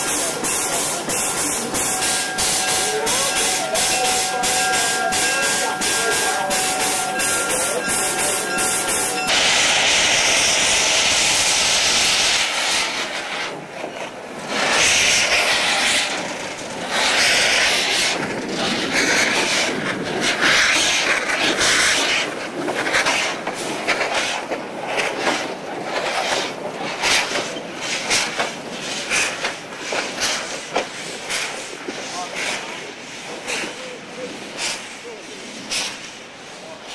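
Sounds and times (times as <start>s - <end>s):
steam locomotive hissing: 0.0s - 36.9s.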